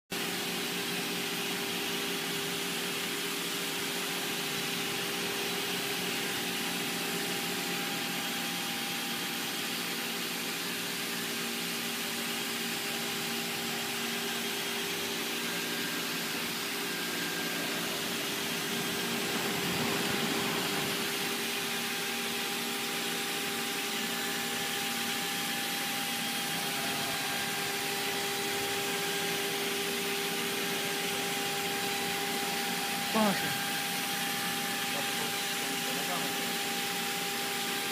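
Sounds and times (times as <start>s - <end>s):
router spindle whine: 0.6s - 37.9s.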